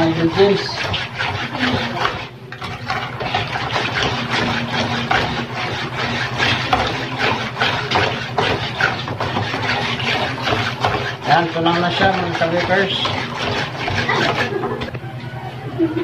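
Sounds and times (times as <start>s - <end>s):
whisk beating batter in bowl: 0.0s - 15.0s
steady low machine hum: 0.0s - 16.0s.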